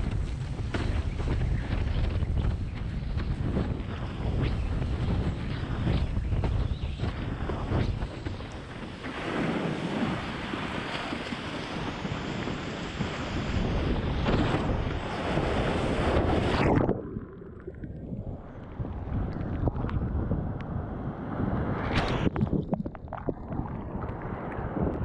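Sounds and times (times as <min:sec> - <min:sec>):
wind blasting microphone: 0:00.0 - 0:25.0.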